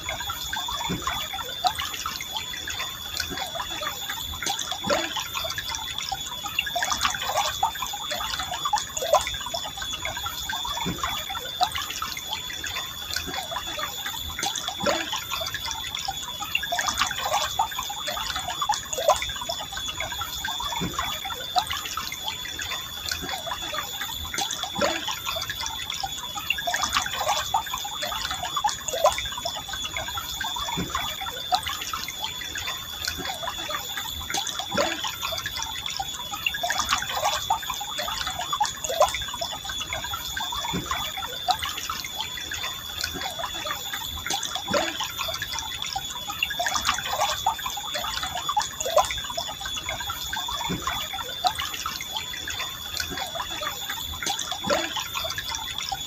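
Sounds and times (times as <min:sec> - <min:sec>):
thin steady high tone: 0:00.0 - 0:56.0.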